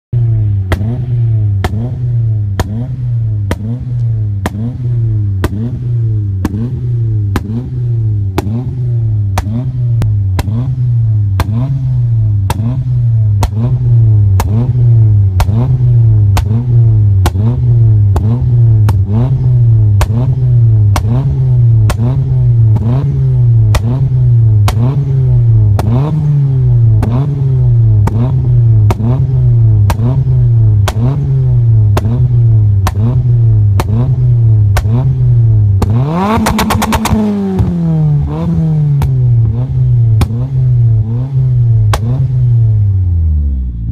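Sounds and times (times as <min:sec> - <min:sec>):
engine revving through exhaust: 0:00.1 - 0:43.9
sharp exhaust pops: 0:00.2 - 0:42.6.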